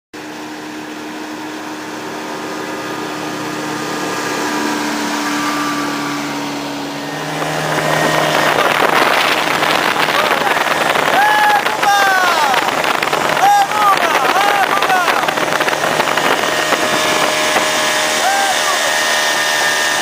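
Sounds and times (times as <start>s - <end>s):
outboard motor running: 0.2s - 20.0s
rush of wind and water: 0.2s - 20.0s.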